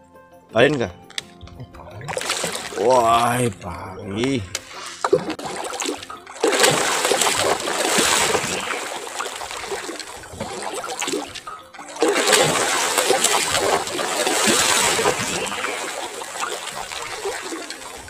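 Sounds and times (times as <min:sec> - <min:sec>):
stingray thrashing and splashing: 0:01.6 - 0:03.3, 0:04.2 - 0:18.0.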